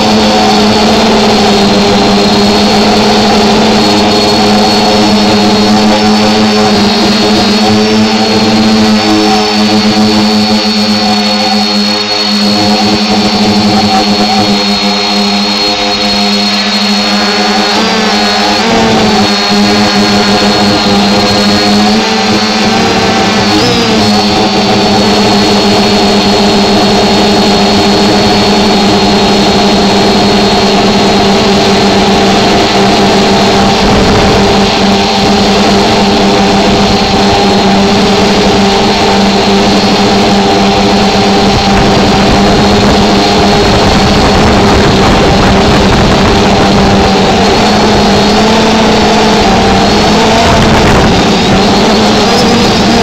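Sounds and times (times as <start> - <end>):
drone motors humming and whining: 0.0 - 53.0
wind rumbling on microphone: 0.0 - 53.0.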